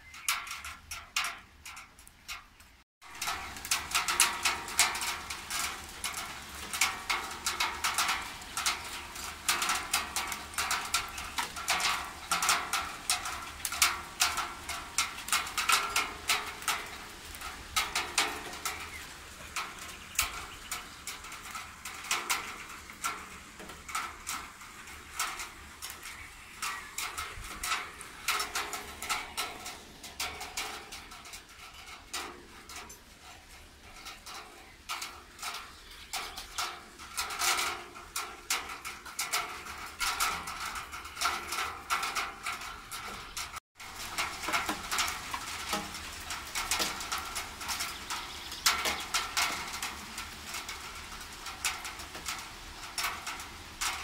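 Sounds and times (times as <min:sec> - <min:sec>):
raindrops tapping on a railing: 0:00.0 - 0:54.0.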